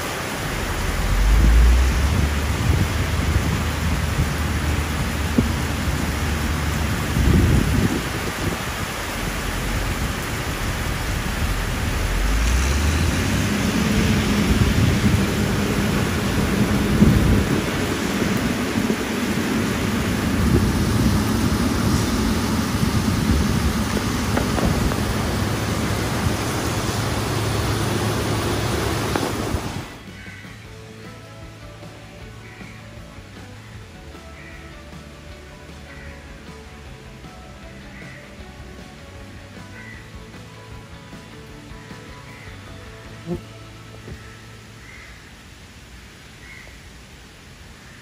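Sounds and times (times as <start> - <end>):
low rumble: 0.0 - 44.4
heavy rain on paving: 0.0 - 48.0.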